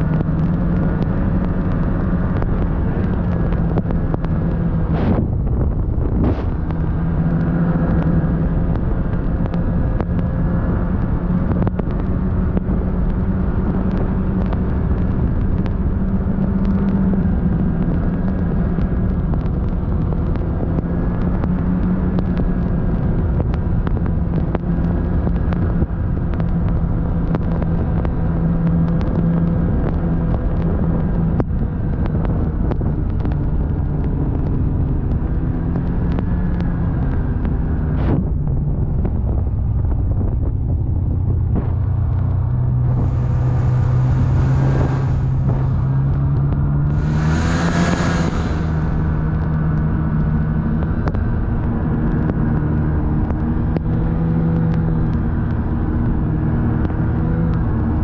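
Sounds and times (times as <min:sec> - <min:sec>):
vehicle engine droning: 0:00.0 - 0:58.0
wind rush over microphone: 0:00.0 - 0:58.0.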